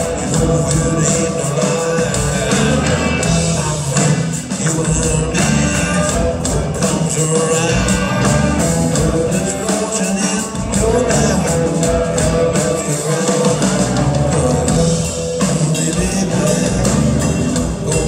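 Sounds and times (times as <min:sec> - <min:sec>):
bass and drums: 0:00.0 - 0:18.0
electric guitar: 0:00.0 - 0:18.0
man singing: 0:00.0 - 0:18.0.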